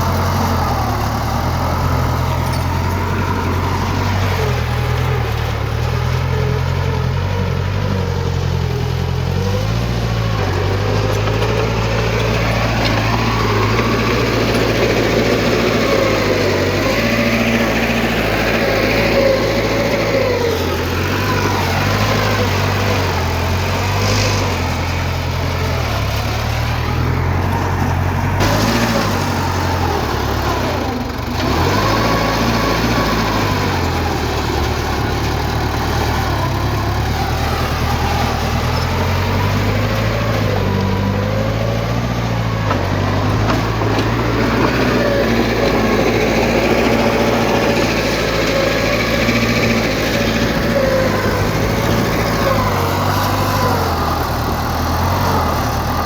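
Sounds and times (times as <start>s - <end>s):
heavy diesel engine revving: 0.0s - 56.0s.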